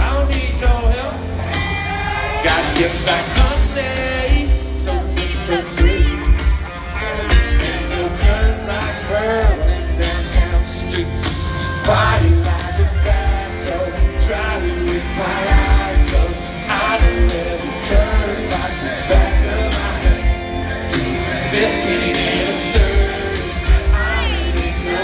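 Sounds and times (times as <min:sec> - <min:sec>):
heavy pounding bass beat: 0:00.0 - 0:01.4, 0:02.3 - 0:06.6, 0:07.3 - 0:25.0
man singing: 0:00.0 - 0:01.4, 0:02.2 - 0:25.0
live country-pop band music: 0:00.0 - 0:25.0.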